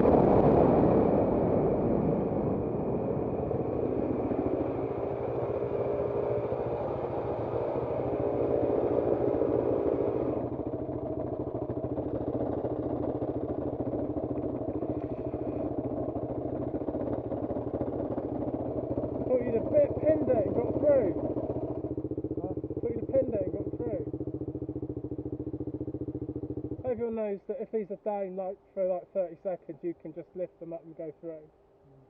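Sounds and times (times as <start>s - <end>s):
motorcycle engine idling: 2.5s - 32.0s.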